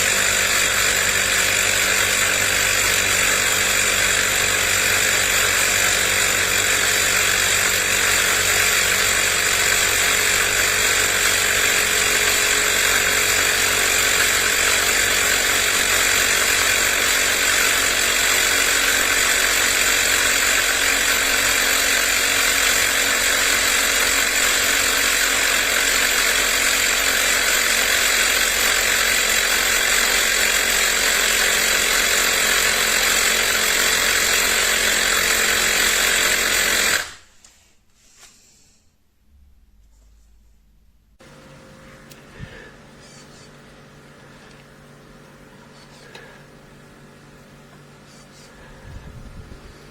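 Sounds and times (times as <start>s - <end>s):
air compressor buzzing drone: 0.0s - 37.2s, 41.2s - 49.9s.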